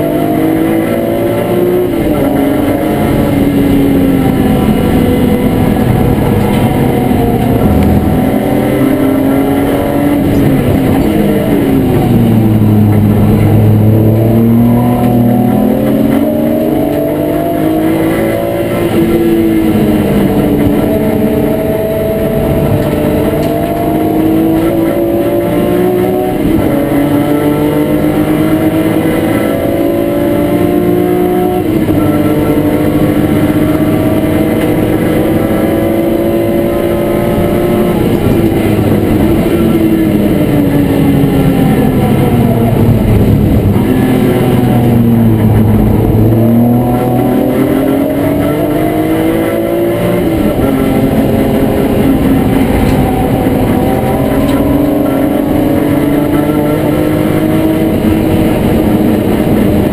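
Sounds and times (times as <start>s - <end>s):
race car engine from inside cabin: 0.0s - 59.9s.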